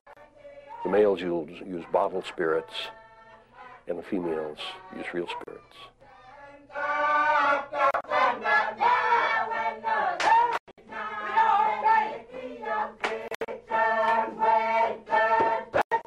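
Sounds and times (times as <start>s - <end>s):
women singing together: 0.1s - 16.0s.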